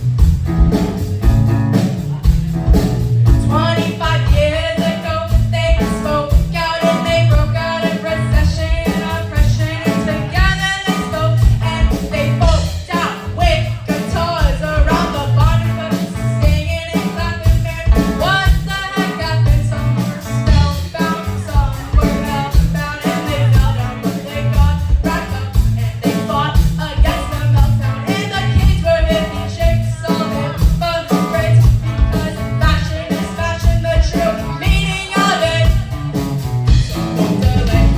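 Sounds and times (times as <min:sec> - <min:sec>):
rock band playing live: 0:00.0 - 0:37.9
lead singer: 0:01.7 - 0:37.9.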